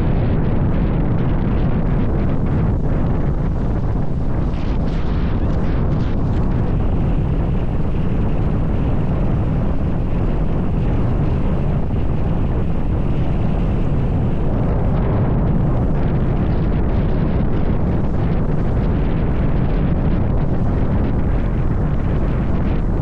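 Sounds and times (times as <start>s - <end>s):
strong wind on microphone: 0.0s - 23.0s.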